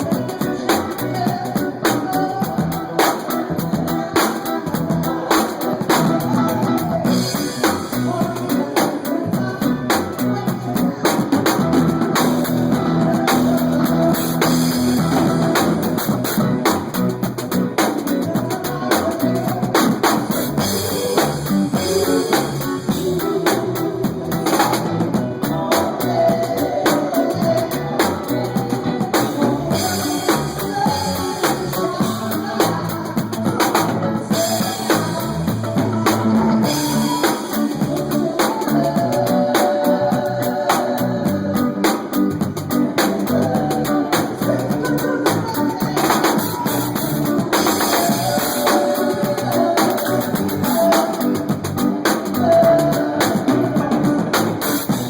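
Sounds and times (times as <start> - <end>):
drum kit beat: 0.0 - 55.0
live band playing dance tune: 0.0 - 55.0.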